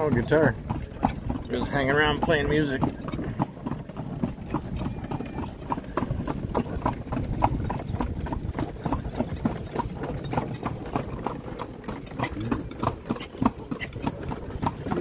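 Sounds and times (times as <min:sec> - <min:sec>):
cart rolling rumble: 0:00.0 - 0:15.0
horse hooves clip-clopping on pavement: 0:00.0 - 0:15.0.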